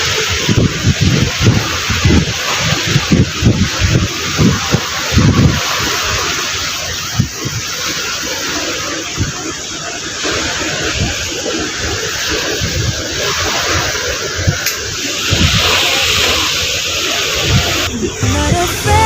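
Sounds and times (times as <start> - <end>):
wind buffeting microphone: 0.0 - 18.6
rushing sea and ship noise: 0.0 - 19.0.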